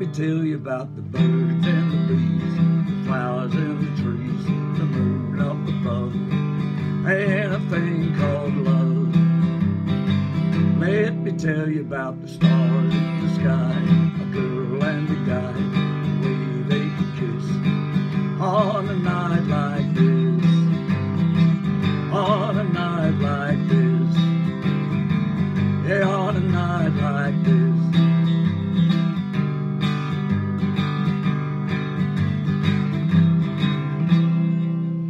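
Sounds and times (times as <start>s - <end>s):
man singing: 0.0s - 28.8s
acoustic guitar strumming: 0.0s - 35.0s.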